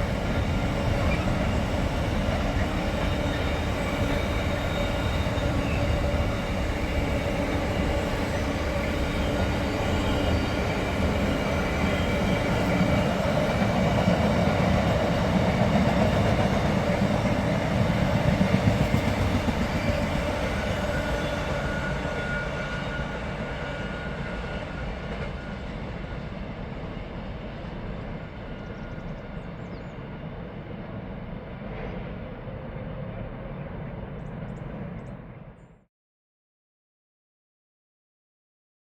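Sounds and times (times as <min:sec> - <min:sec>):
train wheels rumbling on rails: 0:00.0 - 0:35.6
faint metallic ringing of rails: 0:00.0 - 0:35.7.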